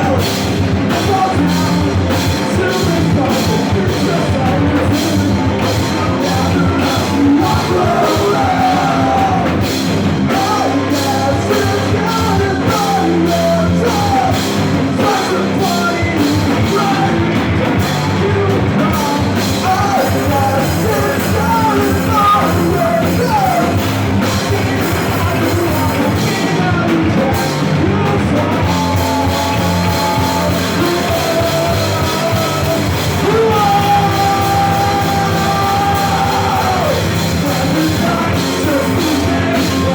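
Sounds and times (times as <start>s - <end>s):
drum kit: 0.0s - 39.9s
guitars: 0.0s - 39.9s
person singing and yelling: 0.0s - 39.9s.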